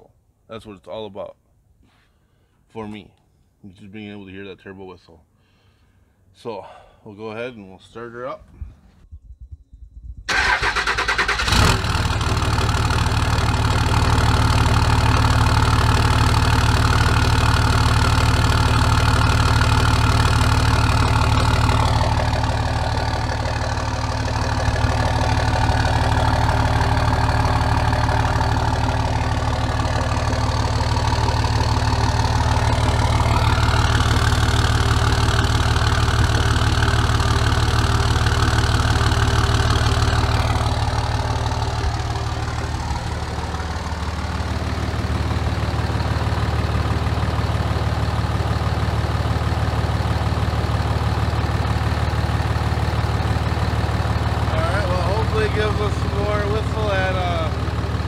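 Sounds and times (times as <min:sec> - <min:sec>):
diesel engine cranking and idling: 0:08.5 - 0:58.0.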